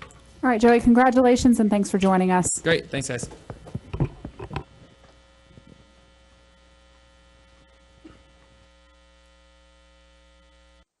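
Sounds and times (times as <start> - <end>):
faint mains hum: 0.0 - 11.0.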